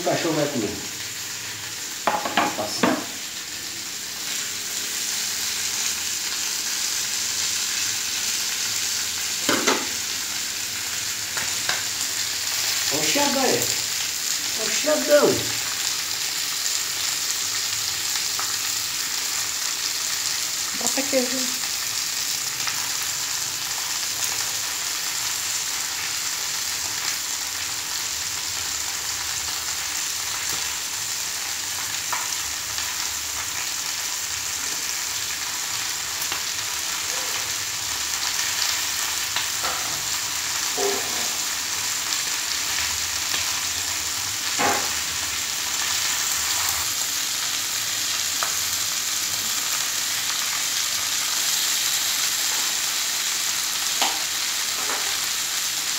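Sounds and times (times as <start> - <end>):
meat sizzling: 0.0 - 55.9.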